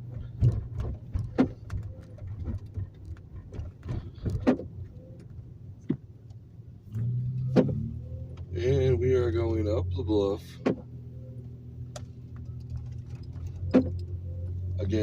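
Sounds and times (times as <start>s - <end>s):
engine and road drone: 0.0s - 15.0s.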